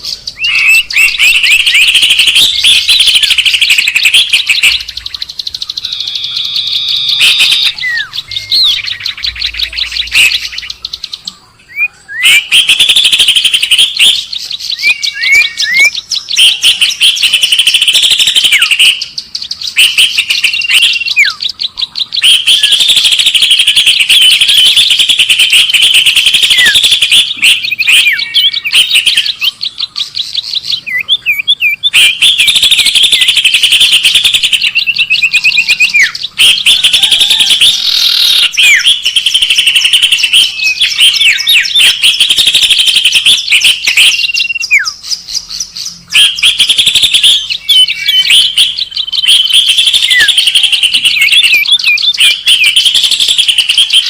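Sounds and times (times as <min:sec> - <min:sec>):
whistled upward slurs: 0:00.0 - 0:10.9, 0:11.7 - 0:54.0
rapid high bird trills: 0:00.0 - 0:54.0.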